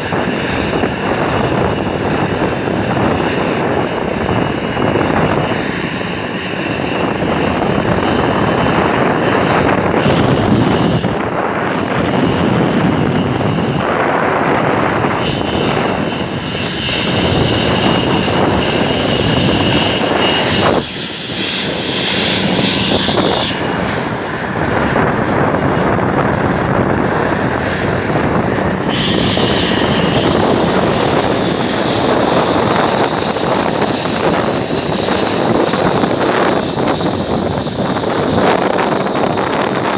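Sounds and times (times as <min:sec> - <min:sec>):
jet engines at taxi power: 0:00.0 - 0:39.9.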